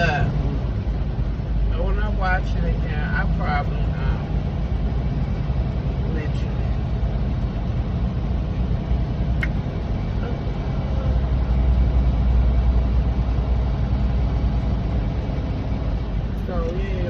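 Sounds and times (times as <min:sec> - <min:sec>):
truck engine and road drone: 0:00.0 - 0:17.0.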